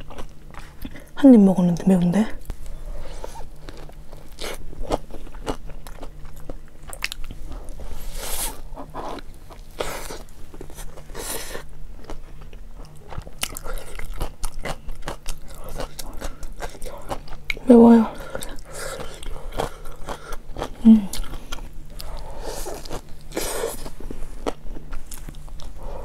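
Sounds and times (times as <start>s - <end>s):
crunchy chewing: 0.0s - 1.2s, 2.4s - 26.0s.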